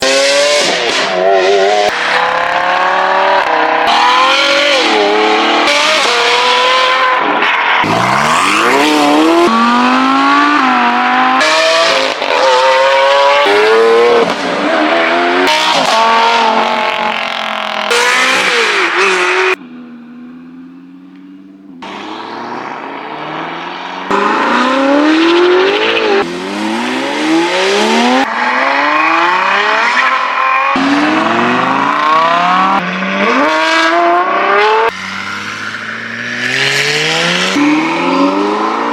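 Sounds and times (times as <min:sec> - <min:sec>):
supercar engines revving: 0:00.0 - 0:38.9.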